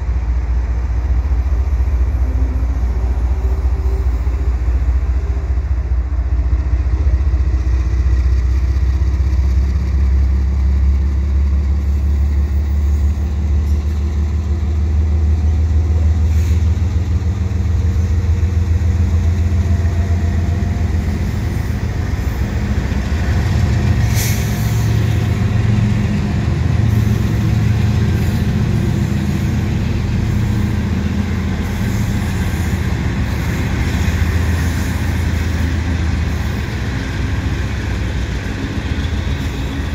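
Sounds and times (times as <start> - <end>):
diesel locomotive engines rumbling: 0.0 - 39.9.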